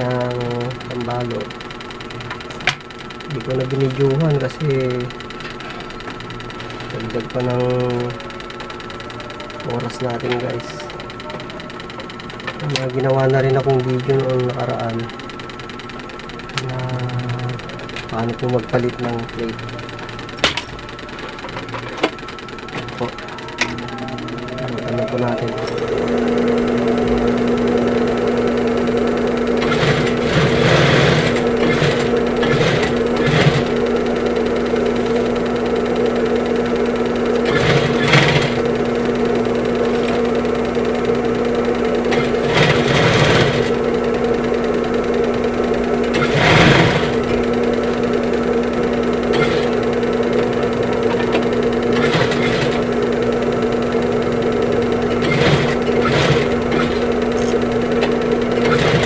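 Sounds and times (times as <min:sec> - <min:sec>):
electric sewing machine running: 0:00.0 - 0:59.0.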